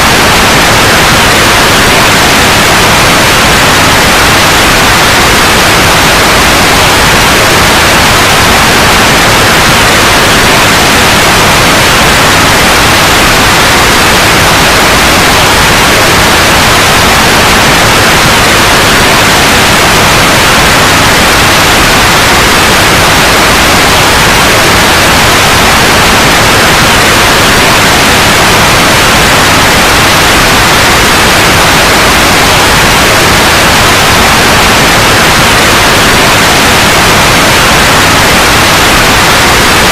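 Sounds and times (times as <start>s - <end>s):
loud white noise hiss: 0.0s - 39.9s.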